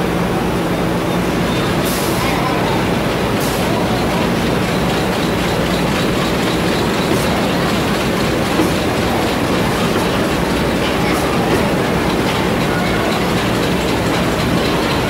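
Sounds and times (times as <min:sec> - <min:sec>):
machinery clicking rapidly: 0:01.5 - 0:15.0.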